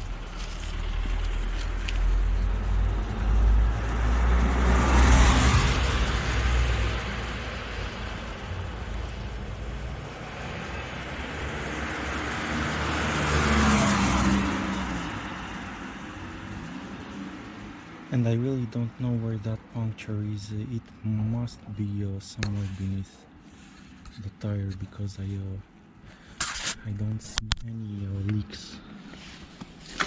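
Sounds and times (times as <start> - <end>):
cars passing by: 0.0 - 30.0.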